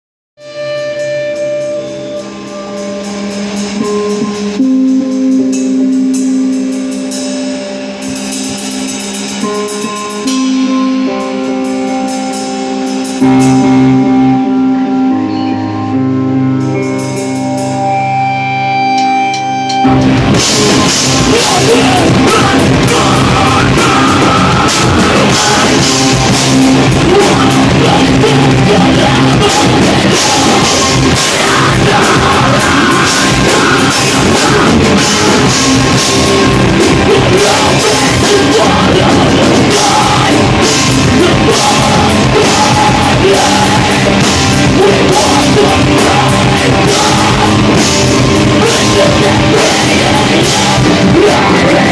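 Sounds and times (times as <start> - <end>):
rock band playing live: 0.4 - 51.9.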